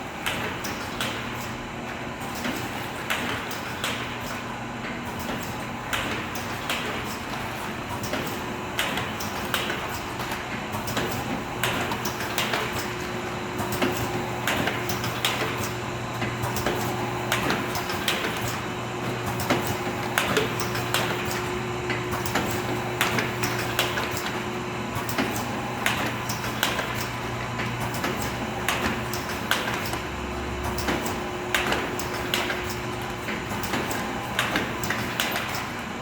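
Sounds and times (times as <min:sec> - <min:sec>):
packaging machine humming: 0:00.0 - 0:36.0.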